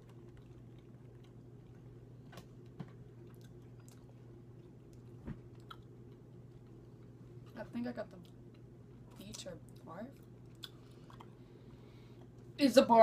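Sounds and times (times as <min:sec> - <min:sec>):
chewing jelly beans: 0:00.0 - 0:12.5.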